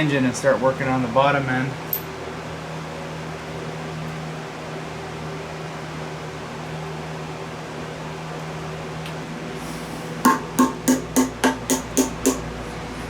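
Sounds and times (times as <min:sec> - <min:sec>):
fan running: 0:00.0 - 0:13.0.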